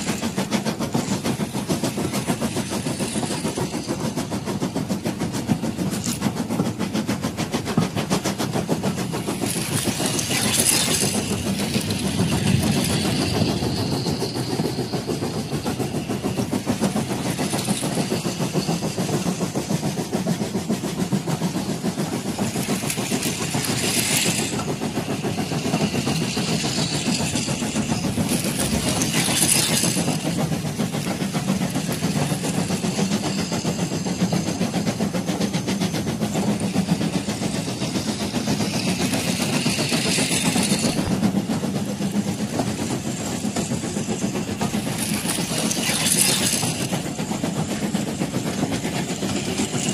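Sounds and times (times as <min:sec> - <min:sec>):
toy train motor whirring: 0:00.0 - 0:05.1, 0:05.8 - 0:06.7, 0:08.9 - 0:19.9, 0:21.6 - 0:49.9
wheels and gears clicking: 0:00.0 - 0:49.9.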